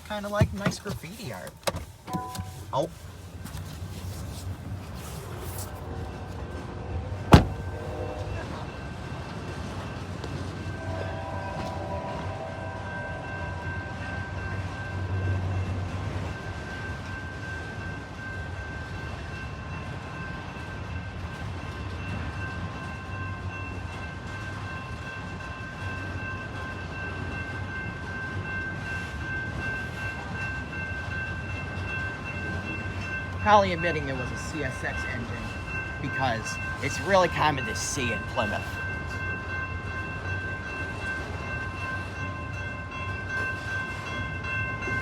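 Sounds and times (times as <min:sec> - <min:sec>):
train cars rumbling on rails: 0:00.0 - 0:45.0.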